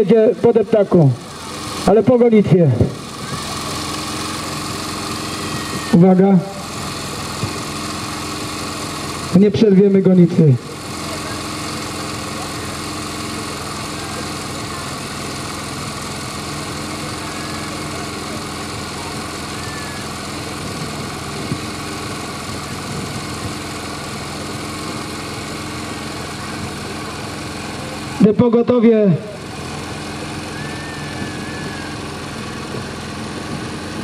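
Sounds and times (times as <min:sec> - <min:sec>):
steady engine-like hum: 0:00.0 - 0:34.0.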